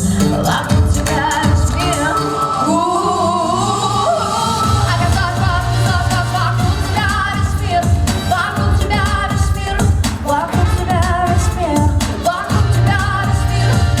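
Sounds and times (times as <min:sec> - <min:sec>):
person singing with vibrato: 0:00.0 - 0:14.0
pop backing track: 0:00.0 - 0:14.0.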